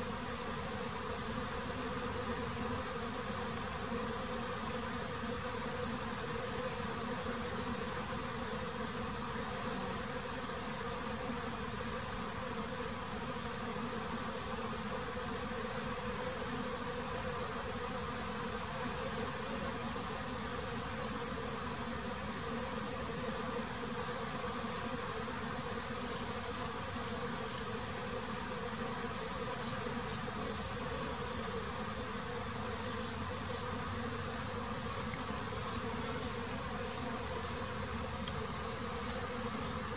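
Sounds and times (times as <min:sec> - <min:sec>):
high insect chirr: 0:00.0 - 0:39.9
honeybees buzzing: 0:00.0 - 0:39.9.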